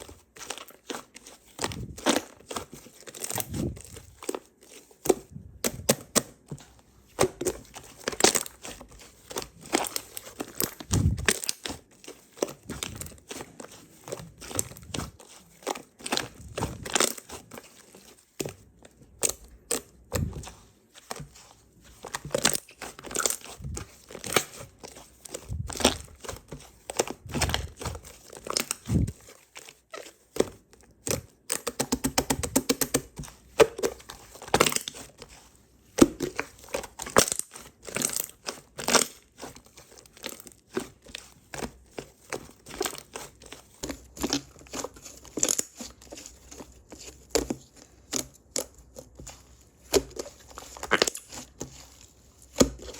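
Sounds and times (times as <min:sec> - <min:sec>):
slime squished by hand: 0:00.0 - 0:52.9.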